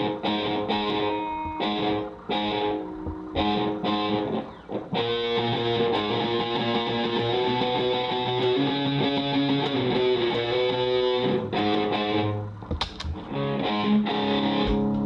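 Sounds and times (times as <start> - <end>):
electric guitar with echo: 0.0 - 15.0.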